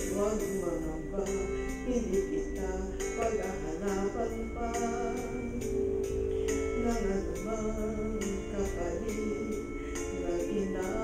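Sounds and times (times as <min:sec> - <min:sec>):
backing track with steady beat: 0:00.0 - 0:11.0
woman singing karaoke: 0:00.0 - 0:11.0.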